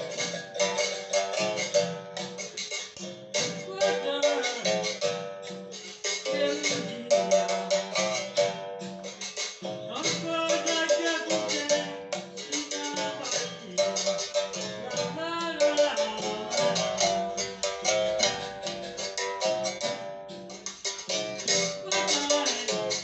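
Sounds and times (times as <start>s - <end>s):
fast plucked-string music: 0.0s - 23.0s.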